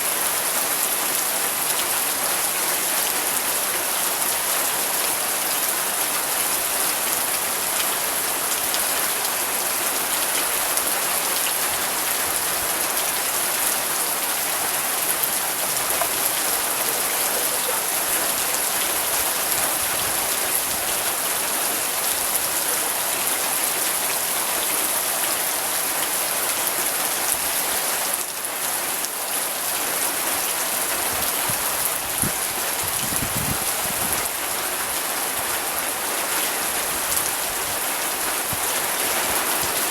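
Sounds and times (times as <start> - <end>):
faint rain patters: 0.0 - 39.9
steady rain hiss: 0.0 - 39.9.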